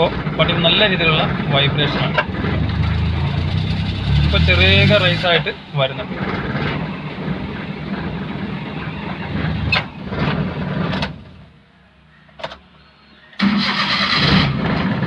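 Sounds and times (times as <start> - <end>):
engine misfiring and vibrating: 0.0 - 11.5, 13.4 - 15.0.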